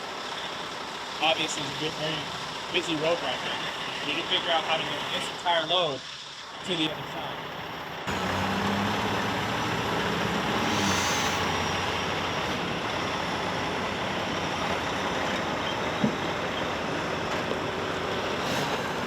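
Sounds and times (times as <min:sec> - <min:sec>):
low truck engine hum: 0:00.0 - 0:19.0
road traffic rushing: 0:00.0 - 0:19.0.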